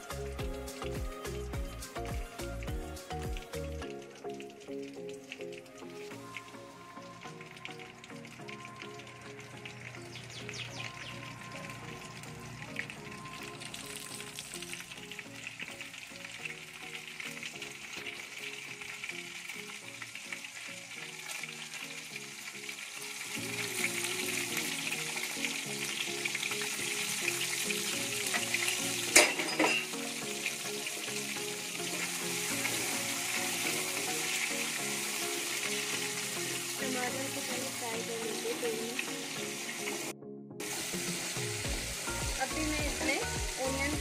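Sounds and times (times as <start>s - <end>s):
background music: 0.0s - 44.0s
oil sizzling: 0.0s - 44.0s.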